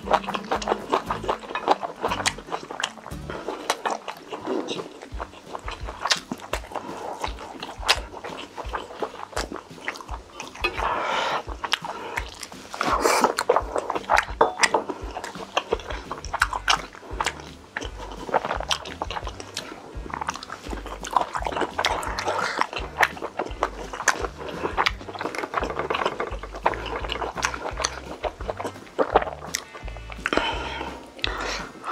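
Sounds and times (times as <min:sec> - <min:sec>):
wet chewing and slurping: 0:00.0 - 0:31.9.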